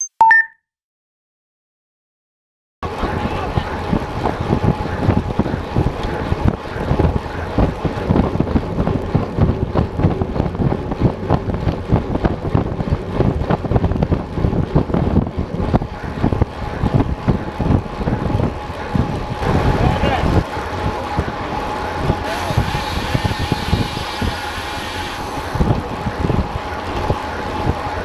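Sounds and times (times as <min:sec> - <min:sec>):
wind buffeting microphone: 0:02.8 - 0:28.0.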